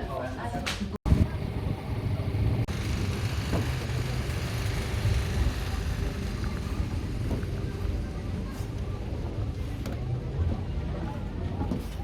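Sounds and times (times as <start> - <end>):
boat engine rumbling: 1.1 - 12.0.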